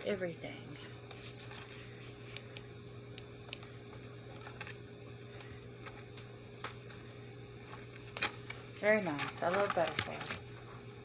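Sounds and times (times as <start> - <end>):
low electrical hum: 0.0 - 11.0
cards and packaging rustling: 1.0 - 2.6, 3.2 - 10.6.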